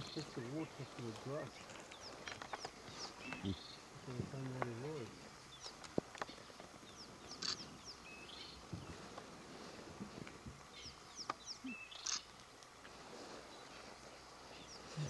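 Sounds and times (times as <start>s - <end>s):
faint bird song: 0.0s - 15.0s.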